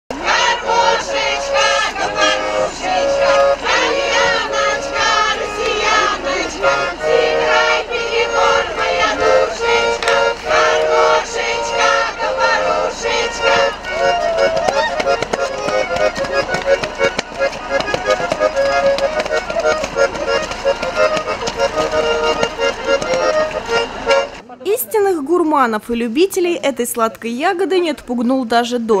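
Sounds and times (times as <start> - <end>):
women's choir singing: 0.1 - 24.4
accordion: 0.1 - 25.7.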